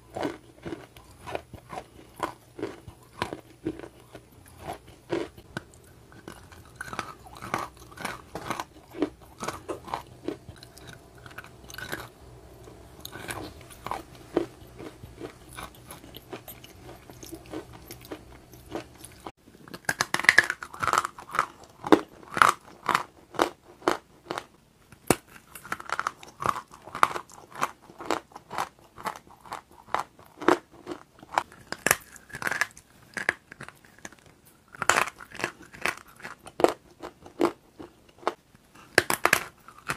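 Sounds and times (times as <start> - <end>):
crunching and chewing meringue: 0.0 - 39.9.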